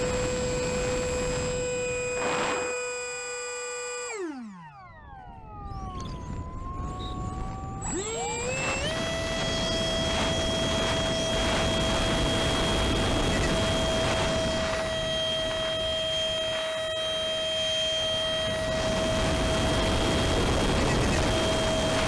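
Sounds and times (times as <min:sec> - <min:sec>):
electric motor and propeller whining: 0:00.0 - 0:22.0.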